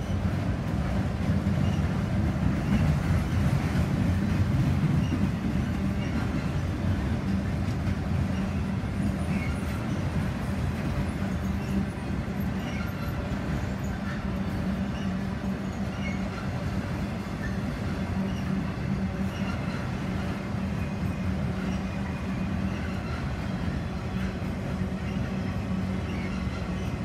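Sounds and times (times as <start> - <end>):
train wheels rumbling on bridge: 0.0 - 27.0.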